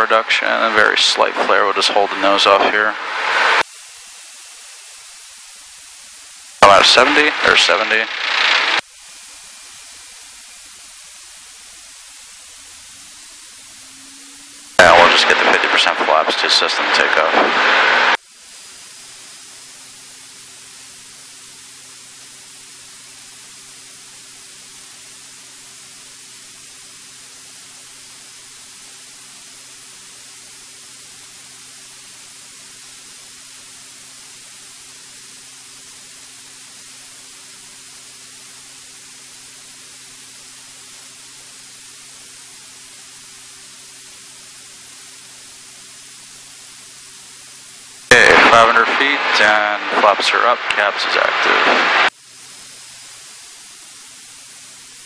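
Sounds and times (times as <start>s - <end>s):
intercom electronic hiss: 0.0s - 55.0s.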